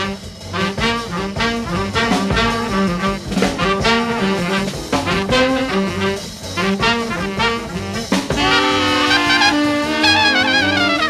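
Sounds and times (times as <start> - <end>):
jazz ensemble playing: 0.0 - 11.0
sharp drum hit: 0.0 - 11.0
trumpet line: 0.0 - 11.0.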